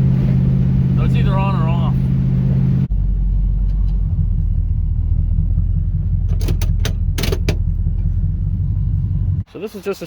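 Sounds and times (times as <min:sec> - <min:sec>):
car engine rumbling: 0:00.0 - 0:09.7.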